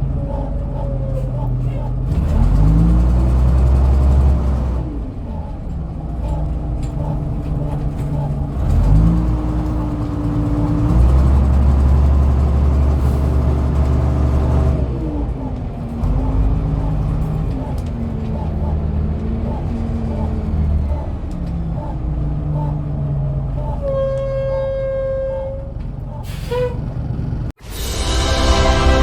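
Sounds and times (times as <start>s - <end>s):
bus diesel engine running: 0.0s - 29.0s.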